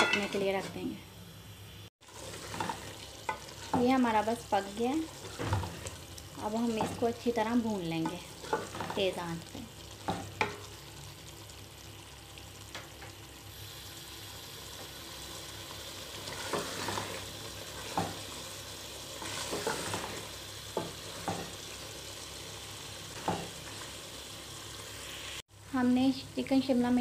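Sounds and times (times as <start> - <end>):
curry sizzling in a pot: 0.0 - 27.0.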